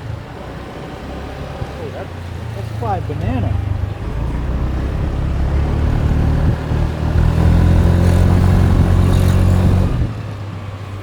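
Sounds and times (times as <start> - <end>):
motorbike engine droning: 0.0 - 11.0.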